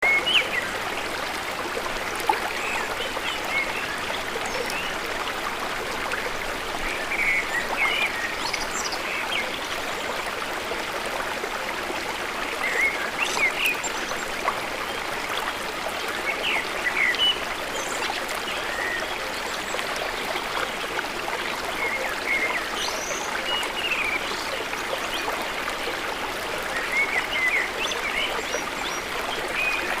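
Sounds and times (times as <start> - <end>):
forest stream flowing: 0.0 - 30.0.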